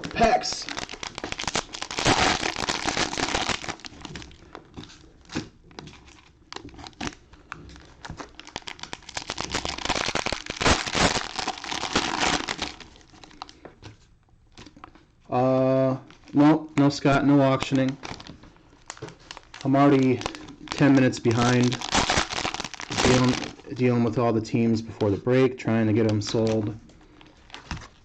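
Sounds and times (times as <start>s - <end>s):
cellophane wrappers crinkling and tearing: 0.0s - 13.6s, 16.0s - 23.9s, 26.0s - 28.0s.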